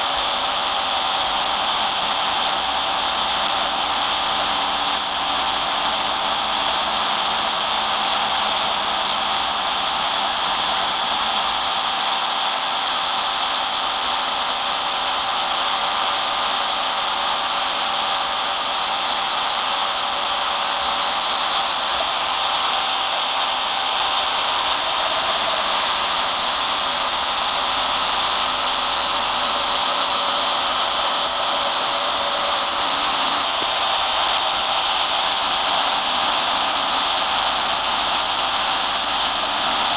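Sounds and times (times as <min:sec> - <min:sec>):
bandsaw cutting steel: 0:00.0 - 0:39.9.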